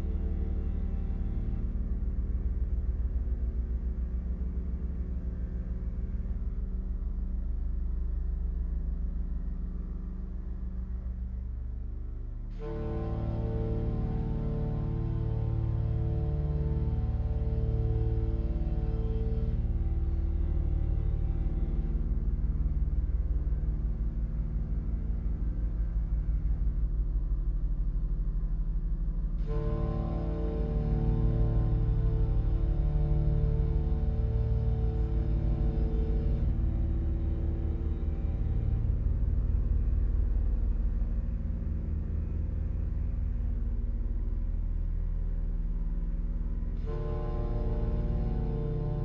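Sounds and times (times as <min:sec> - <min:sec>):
pulsing low throb: 0:00.0 - 0:49.0.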